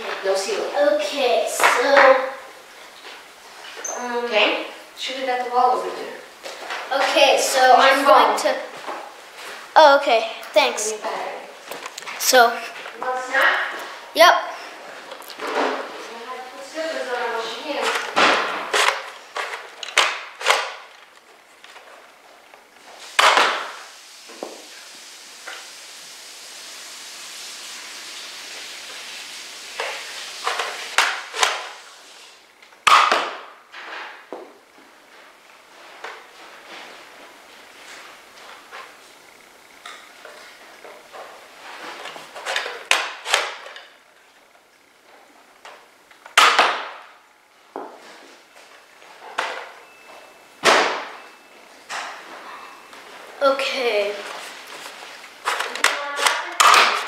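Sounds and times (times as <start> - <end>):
steady hiss: 0.0 - 52.3.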